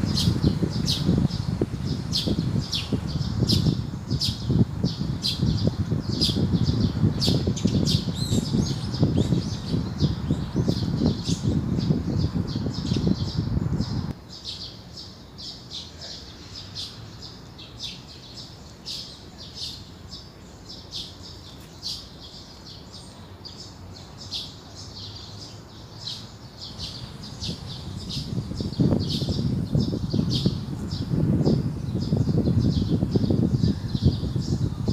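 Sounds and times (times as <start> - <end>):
wind rumble on microphone: 0.0 - 14.6, 20.8 - 34.9
small birds chirping: 0.0 - 34.9.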